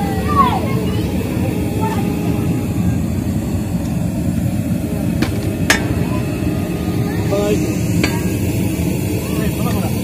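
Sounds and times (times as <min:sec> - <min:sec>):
low rumble: 0:00.7 - 0:09.6.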